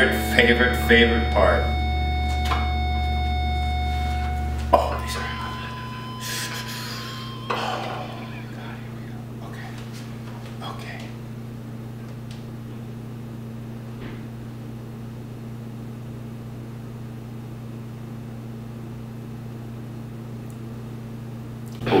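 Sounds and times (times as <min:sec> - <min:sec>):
steady low hum with hiss: 0:00.0 - 0:22.0.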